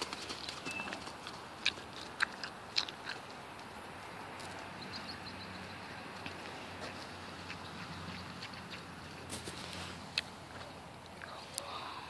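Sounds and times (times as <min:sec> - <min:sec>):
horse hoofbeats trotting on dirt: 0:00.0 - 0:11.1.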